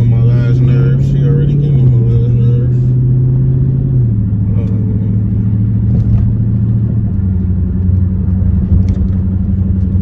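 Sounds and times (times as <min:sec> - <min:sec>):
car engine droning: 0:00.0 - 0:10.0
road noise: 0:00.0 - 0:10.0.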